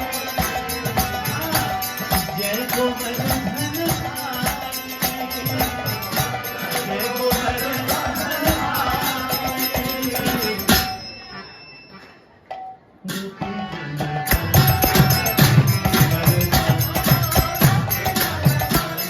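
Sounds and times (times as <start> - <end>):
voices chanting: 0.0 - 11.6, 13.4 - 19.0
rhythmic percussion: 0.0 - 11.8, 12.5 - 19.0.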